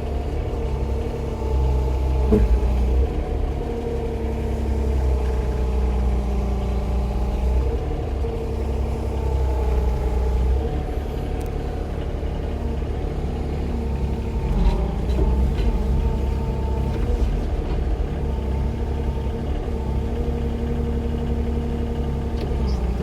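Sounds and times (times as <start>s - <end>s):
diesel engine rumbling: 0.0s - 23.0s.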